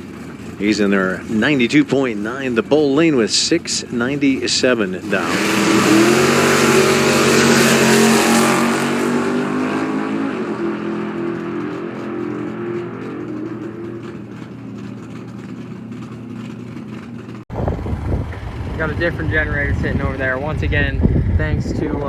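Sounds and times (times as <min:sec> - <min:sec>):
drag racing car engines: 0:00.0 - 0:22.0.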